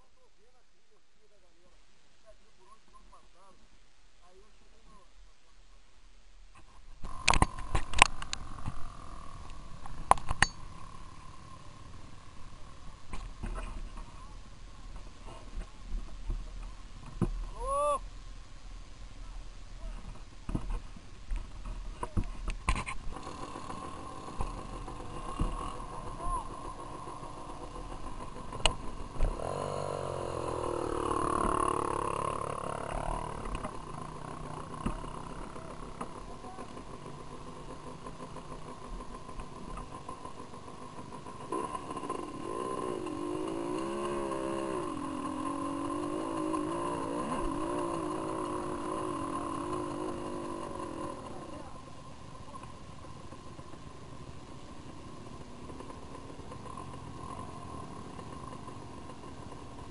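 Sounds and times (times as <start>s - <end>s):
motorcycle engines revving: 6.6s - 18.0s, 19.1s - 59.9s
steady engine drone: 7.0s - 17.7s, 18.4s - 59.9s.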